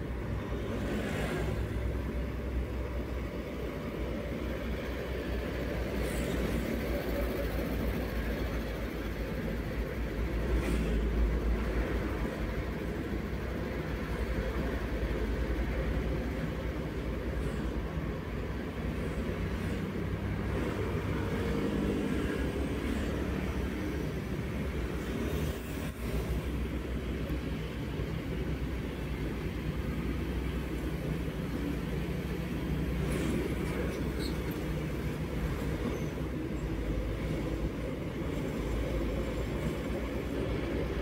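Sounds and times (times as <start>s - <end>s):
car cabin engine and road noise: 0.0s - 41.0s.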